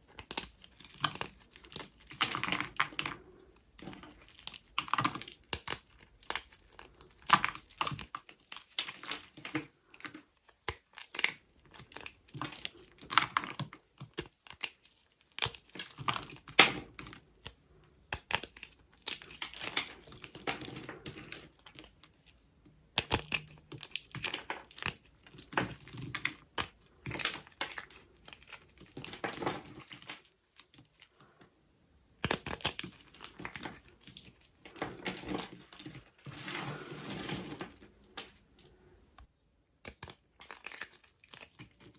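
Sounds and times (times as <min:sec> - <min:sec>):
knife carving dry soap: 0:00.0 - 0:41.9.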